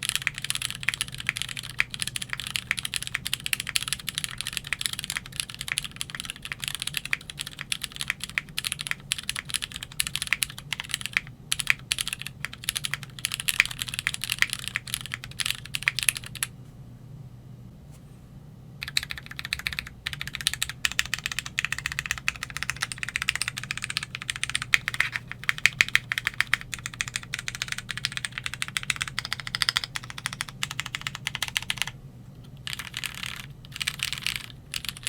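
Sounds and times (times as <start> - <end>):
fast typing on mechanical keyboard: 0.0 - 16.5, 18.8 - 32.0, 32.6 - 35.0.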